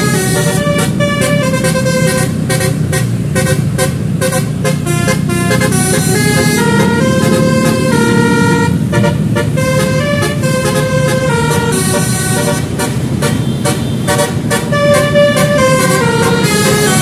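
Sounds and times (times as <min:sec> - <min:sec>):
multi-tone horn playing a tune: 0:00.0 - 0:17.0
vehicle engine running: 0:00.0 - 0:17.0.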